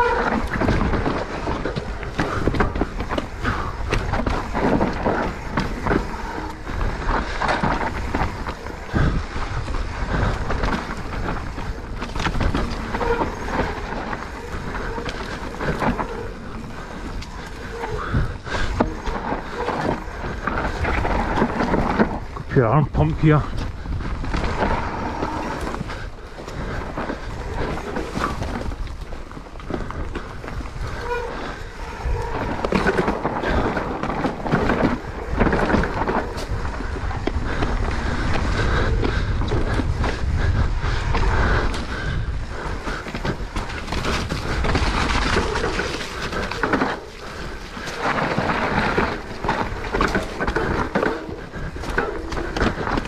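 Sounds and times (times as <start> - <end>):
bike rattling over bumps: 0.0 - 53.0
tyres rolling over dirt and stones: 0.0 - 53.0
wind rumbling on microphone: 0.0 - 53.0.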